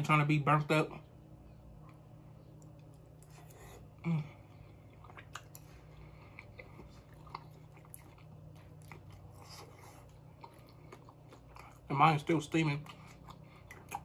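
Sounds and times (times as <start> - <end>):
person chewing food: 1.6 - 14.0.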